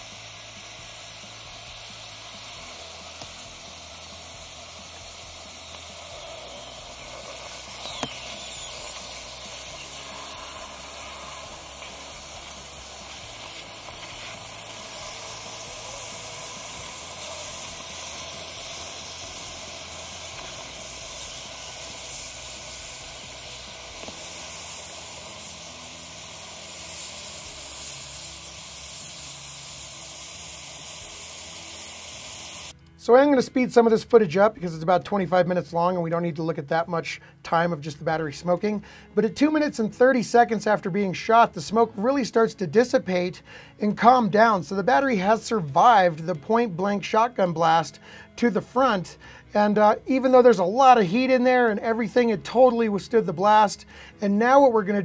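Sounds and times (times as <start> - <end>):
battery venting hiss: 0.0 - 35.5, 36.3 - 55.0.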